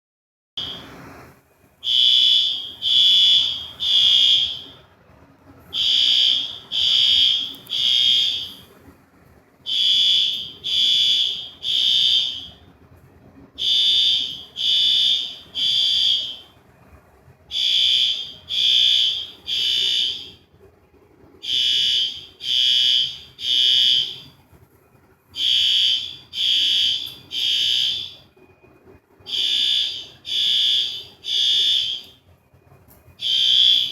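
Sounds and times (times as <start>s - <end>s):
fire alarm beeping: 0.6s - 1.0s, 1.8s - 4.9s, 5.7s - 8.9s, 9.7s - 12.9s, 13.5s - 16.7s, 17.5s - 20.5s, 21.4s - 24.5s, 25.3s - 32.4s, 33.1s - 33.9s.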